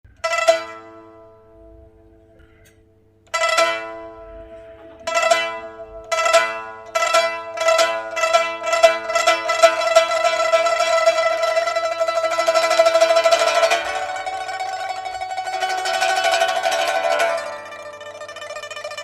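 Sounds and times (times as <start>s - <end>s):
plucked string instrument: 0.0s - 19.0s.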